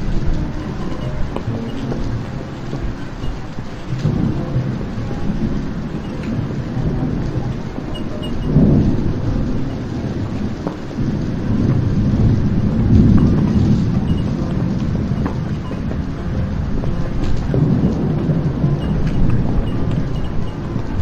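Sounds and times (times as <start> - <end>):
low thunder rumble: 0.0 - 21.0
steady hiss: 0.0 - 21.0.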